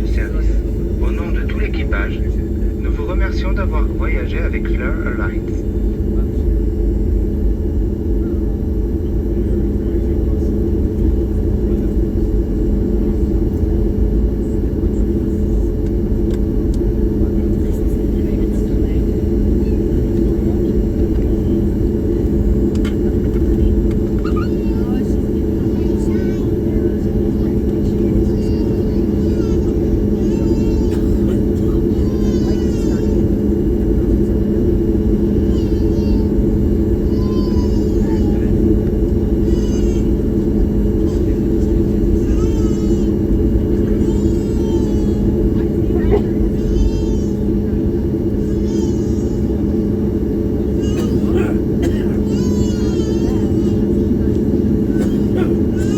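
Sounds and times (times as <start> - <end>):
aircraft cabin rumble: 0.0 - 55.9
constant hum: 0.0 - 55.9.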